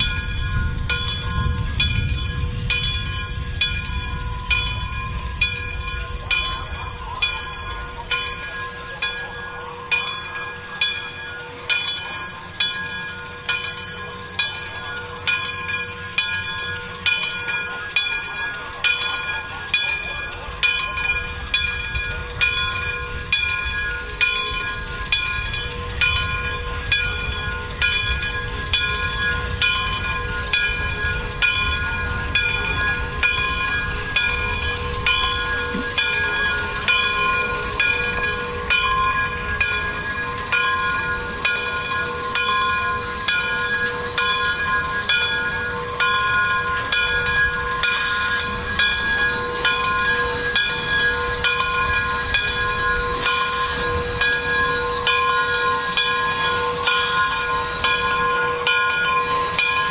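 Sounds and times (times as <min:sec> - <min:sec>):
locomotive bell ringing: 0:00.0 - 0:59.9
steam hissing: 0:00.0 - 0:59.9.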